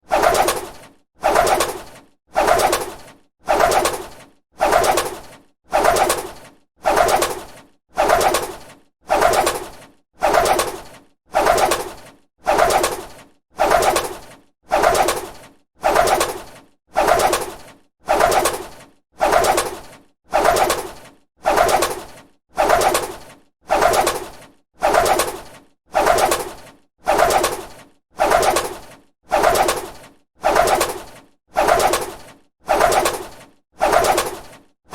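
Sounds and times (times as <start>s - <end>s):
bird wings flapping: 0.0s - 34.7s.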